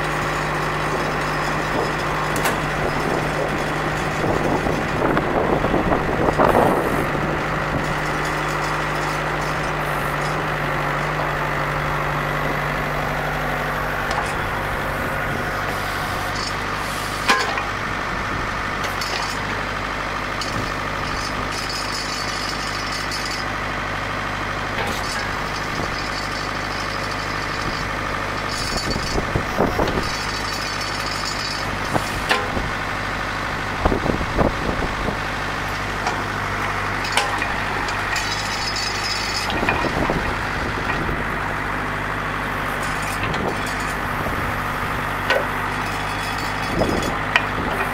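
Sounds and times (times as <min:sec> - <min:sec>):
diesel tractor engine running: 0:00.0 - 0:47.9
hydraulics working: 0:00.0 - 0:47.9.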